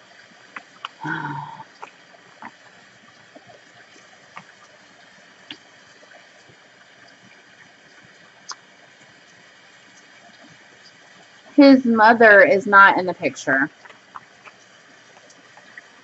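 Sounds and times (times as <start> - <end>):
room hiss: 0.0 - 16.0.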